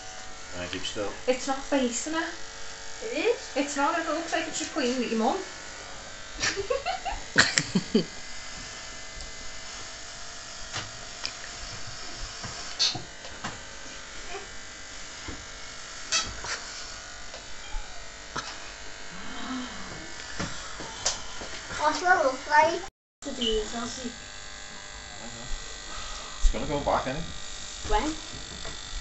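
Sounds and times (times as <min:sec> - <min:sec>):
electric hair clippers buzzing: 0:00.0 - 0:29.0.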